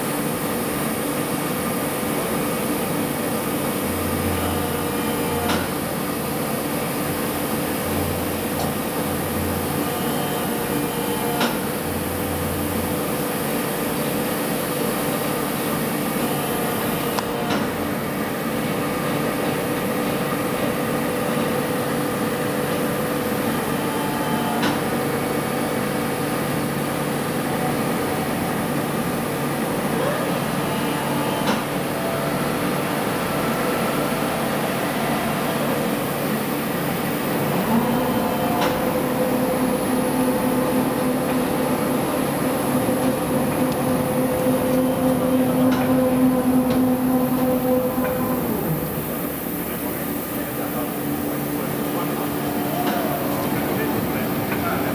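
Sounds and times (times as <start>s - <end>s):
machine mechanical hum: 0.0s - 54.9s.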